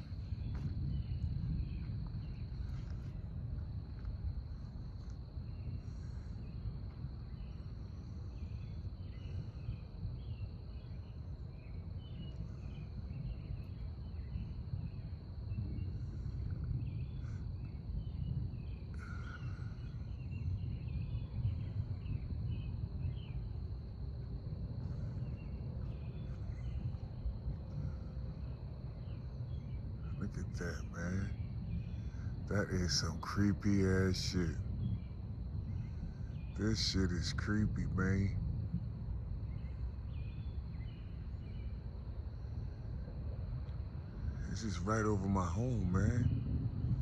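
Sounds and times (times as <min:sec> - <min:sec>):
crickets chirping: 0:00.0 - 0:47.0
insects droning: 0:00.0 - 0:47.0
low rumble: 0:00.0 - 0:47.0.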